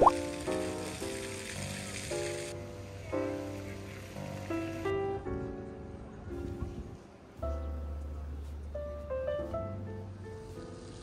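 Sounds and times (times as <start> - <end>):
gentle instrumental melody: 0.0 - 11.0.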